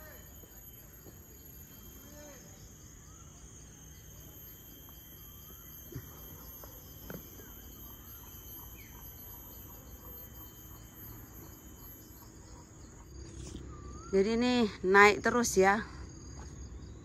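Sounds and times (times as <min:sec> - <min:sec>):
faint bird chirps: 0:00.0 - 0:15.7
shrill insect chorus: 0:00.0 - 0:17.0.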